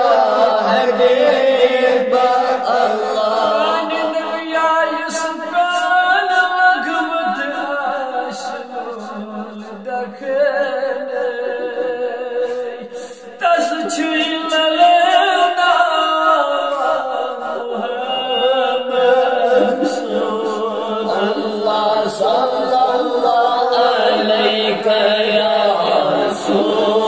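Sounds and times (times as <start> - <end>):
man chanting unaccompanied: 0.0 - 27.0.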